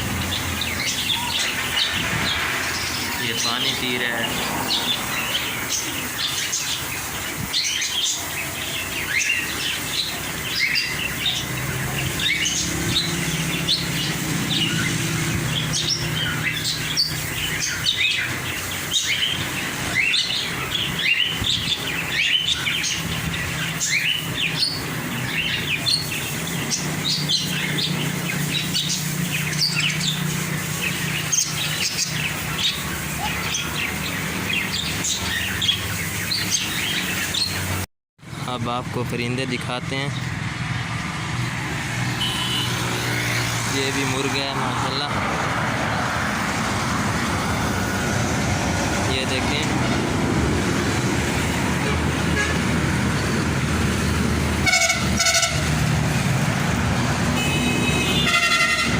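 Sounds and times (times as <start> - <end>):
small birds chirping and twittering: 0.0 - 58.9.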